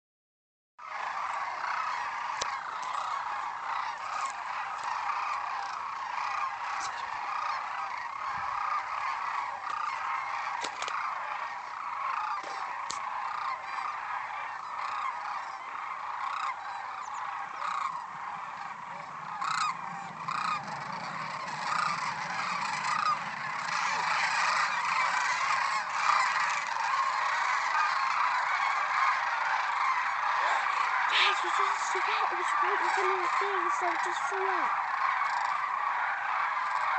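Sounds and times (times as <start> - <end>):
flock of cranes calling: 0.8 - 36.9.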